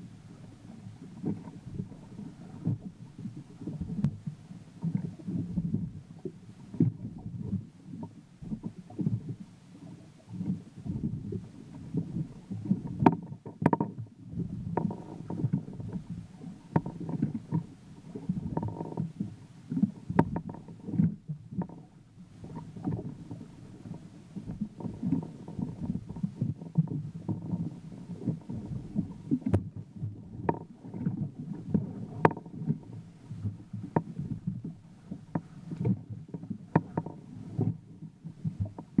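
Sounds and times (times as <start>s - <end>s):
water slapping against boat hull: 0.0s - 39.0s.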